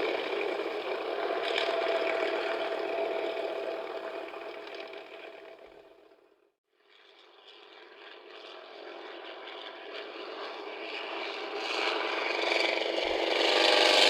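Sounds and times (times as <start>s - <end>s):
radial aircraft engine running: 0.0s - 6.3s, 8.0s - 14.0s.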